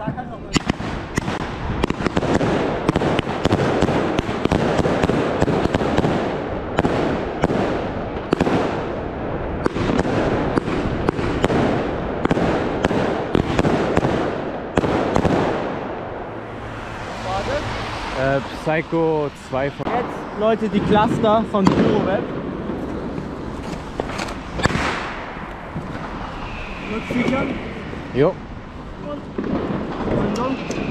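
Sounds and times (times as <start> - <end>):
fireworks crackling and banging: 0.0 - 30.9.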